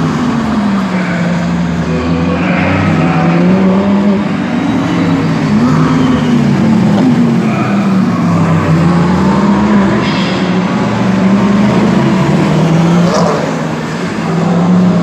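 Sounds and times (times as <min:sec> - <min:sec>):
racing car engine running hard: 0:00.0 - 0:15.0.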